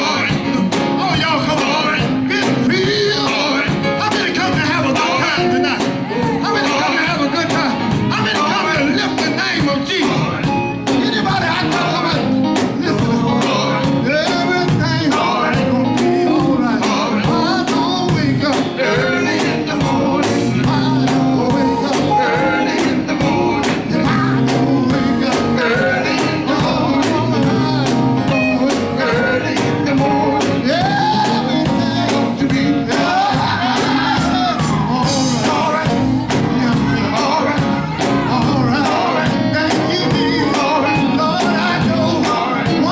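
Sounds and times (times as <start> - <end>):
guitar: 0.0 - 42.9
steady drum beat: 0.0 - 42.9
voices singing: 0.0 - 42.9.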